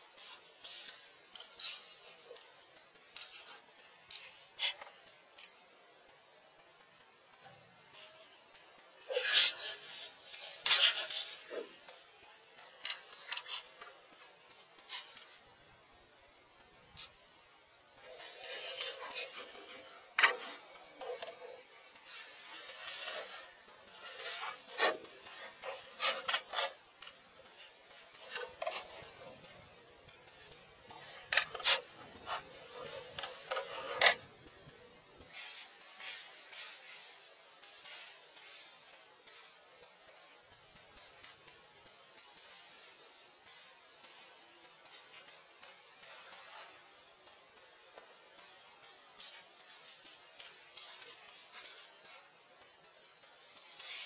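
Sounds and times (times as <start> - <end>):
scraping and rubbing strokes: 0.0 - 6.0, 7.4 - 16.1, 16.9 - 54.0.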